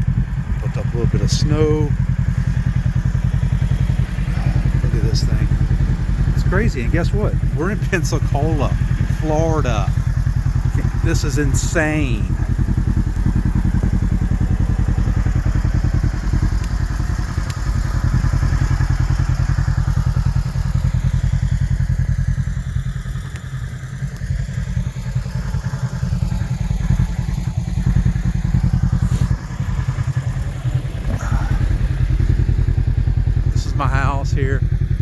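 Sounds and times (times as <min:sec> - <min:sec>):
engine pulsing drone: 0:00.0 - 0:35.0.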